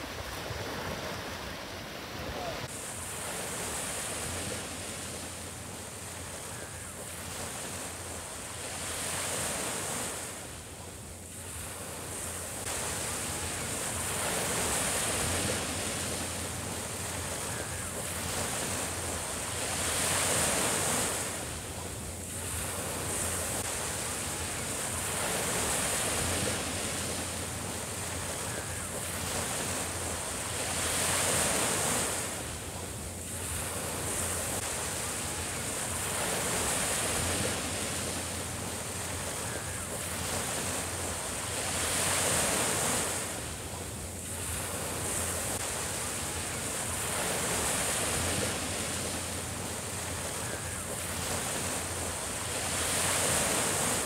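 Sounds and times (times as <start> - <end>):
small waves washing up a beach: 0.0 - 54.0.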